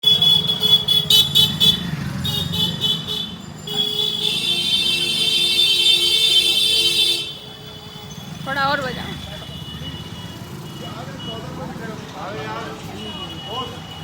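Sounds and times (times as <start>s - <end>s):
traffic rumble: 0.0s - 14.0s
vehicle horns honking: 0.0s - 14.0s.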